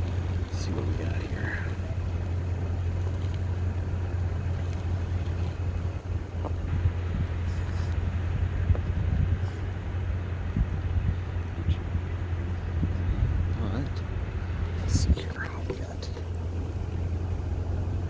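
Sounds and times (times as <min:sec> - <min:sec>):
car drone from inside cabin: 0:00.0 - 0:18.0.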